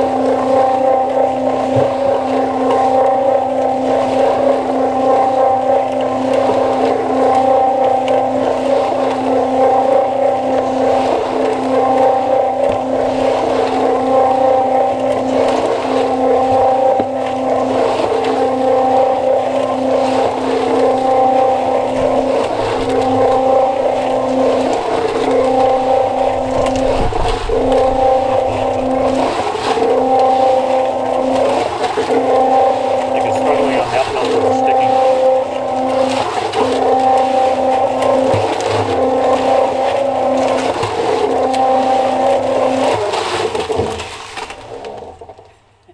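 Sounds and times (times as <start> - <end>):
cement mixer machine hum: 0.0 - 45.6.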